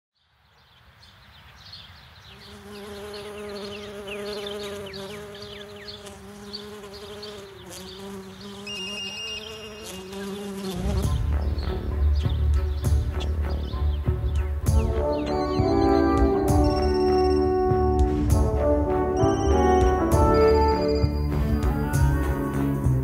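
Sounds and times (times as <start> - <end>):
bee buzzing: 2.3 - 13.6, 14.7 - 23.0.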